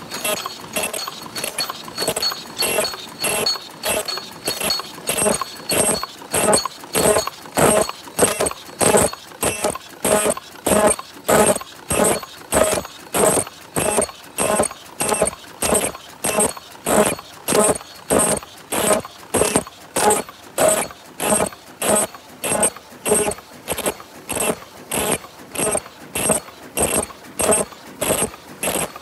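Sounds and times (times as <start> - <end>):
machine beating rhythmically: 0.0 - 29.0.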